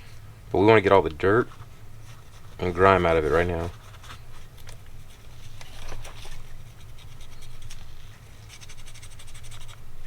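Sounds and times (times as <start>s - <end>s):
cotton swab scrubbing: 1.0s - 5.6s, 6.3s - 9.8s.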